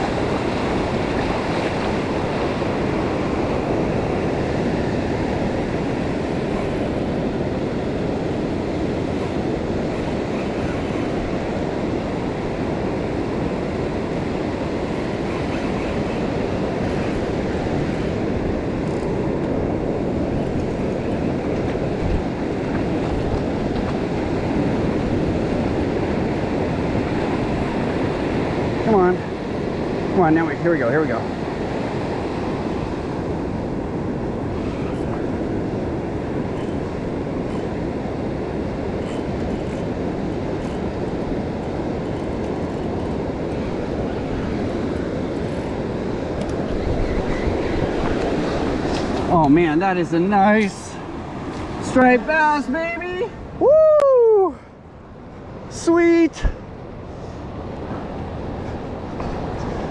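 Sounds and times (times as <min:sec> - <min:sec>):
breaking surf: 0:00.0 - 0:59.9
wind rumbling on microphone: 0:00.0 - 0:59.9.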